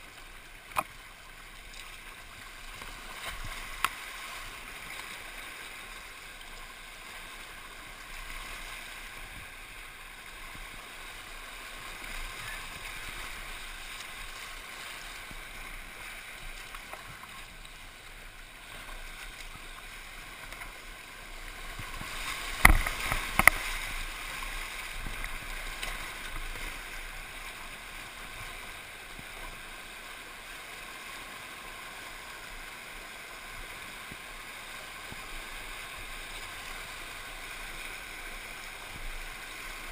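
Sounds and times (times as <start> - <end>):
whitewater rushing: 1.4 - 39.9.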